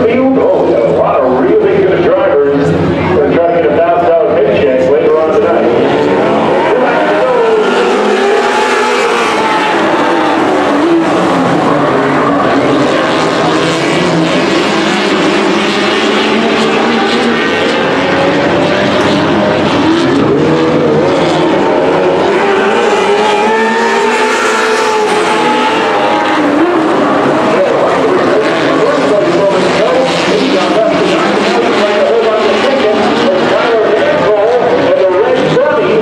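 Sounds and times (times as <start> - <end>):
race car engines on dirt track: 0.0 - 36.0.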